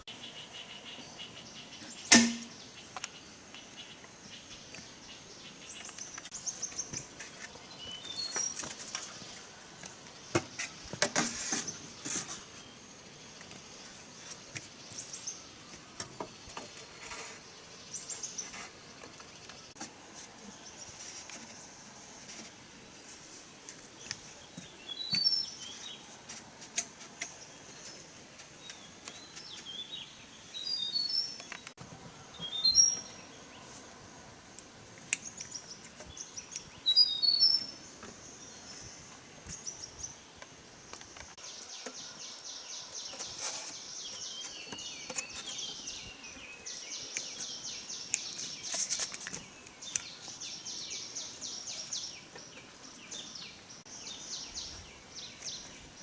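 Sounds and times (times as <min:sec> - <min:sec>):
birds chirping: 0:00.0 - 0:56.0
high steady hiss: 0:00.0 - 0:56.0.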